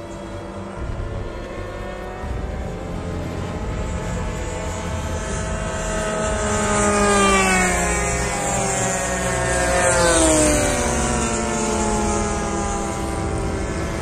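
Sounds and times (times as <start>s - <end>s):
model plane engines buzzing overhead: 0.0s - 14.0s.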